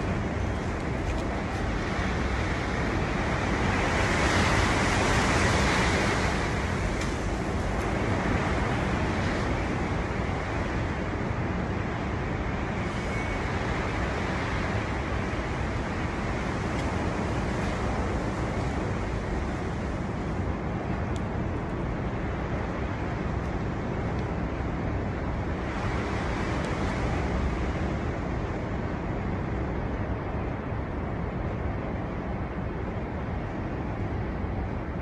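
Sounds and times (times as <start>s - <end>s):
strong storm wind: 0.0s - 35.0s.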